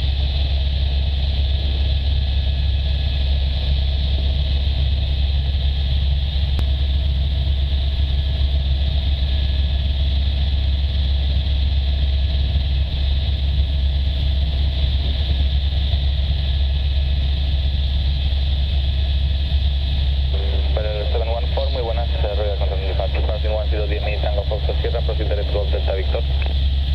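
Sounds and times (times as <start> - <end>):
helicopter engine and rotor drone: 0.0 - 26.9.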